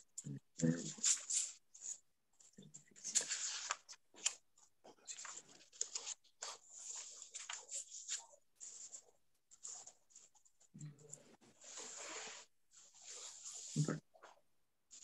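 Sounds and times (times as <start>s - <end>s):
rustling handling noises: 1.0s - 15.0s.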